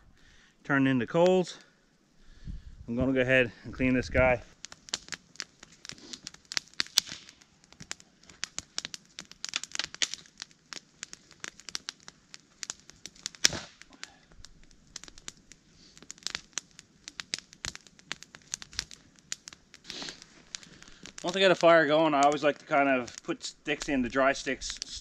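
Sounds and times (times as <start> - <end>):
campfire crackling: 0.0 - 25.0
sharp snaps and pops of fire: 0.0 - 25.0.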